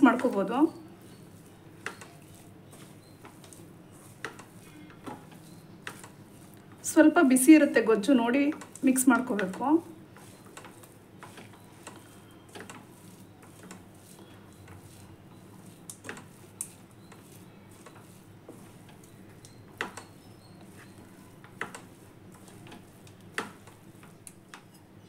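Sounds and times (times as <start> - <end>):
hand mixing rice rustling: 0.0 - 25.0.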